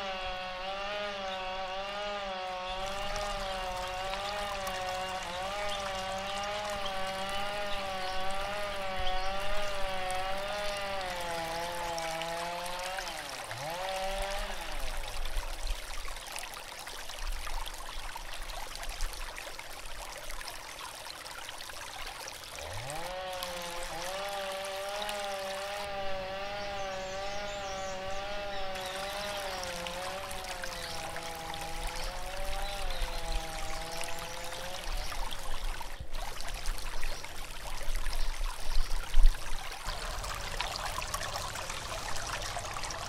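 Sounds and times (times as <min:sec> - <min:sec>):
stream water over stones: 0:00.0 - 0:00.6, 0:01.2 - 0:43.0.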